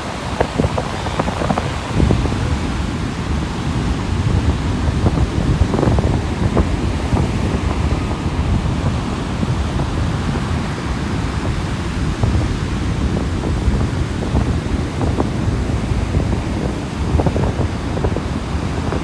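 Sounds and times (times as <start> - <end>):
sea waves washing onto beach: 0.0 - 19.0
wind rumbling on microphone: 0.0 - 19.0.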